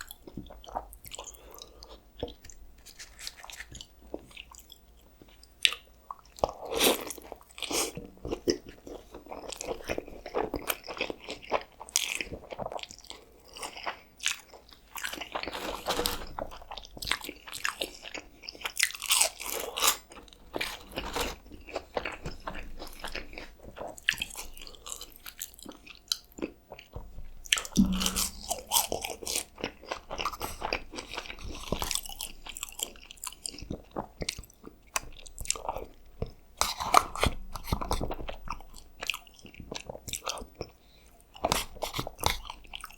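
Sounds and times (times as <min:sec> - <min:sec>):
crunchy chewing: 0:00.0 - 0:36.0.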